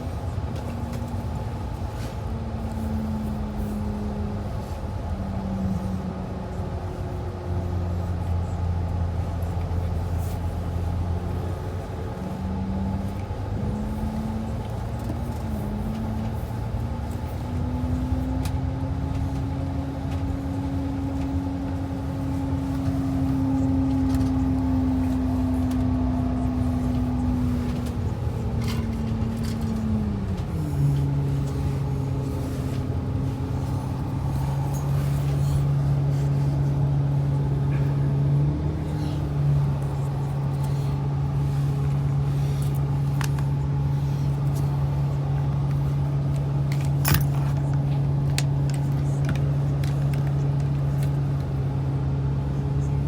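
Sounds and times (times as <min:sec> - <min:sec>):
bus engine running: 0:00.0 - 0:53.0
road noise: 0:00.0 - 0:53.0.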